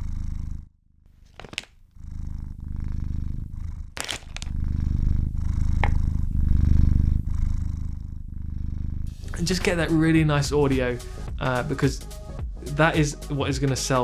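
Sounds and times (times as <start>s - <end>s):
cat purring: 0.0s - 11.8s.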